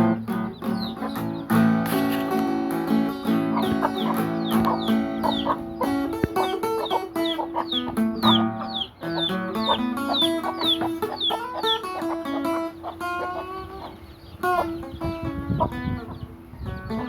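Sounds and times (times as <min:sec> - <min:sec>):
acoustic guitar plucked: 0:00.0 - 0:17.0
chickens calling: 0:00.0 - 0:17.0.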